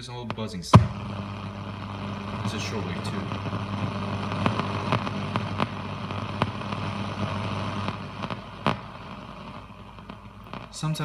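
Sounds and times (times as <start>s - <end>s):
radio static buzz and hiss: 0.0s - 11.0s
static crackles: 0.0s - 11.0s.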